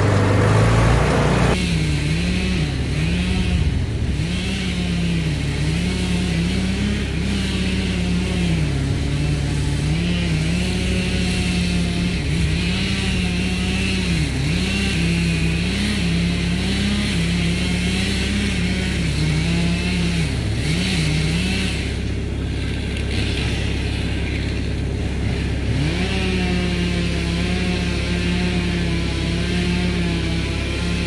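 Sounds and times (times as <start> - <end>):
engine revving up and down: 0.0 - 31.0.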